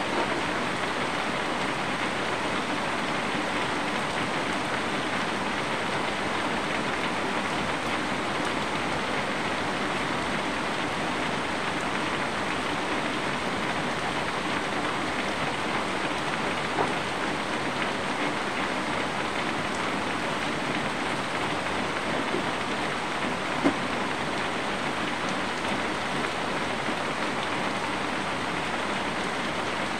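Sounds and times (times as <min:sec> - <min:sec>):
steady rain: 0:00.0 - 0:29.9.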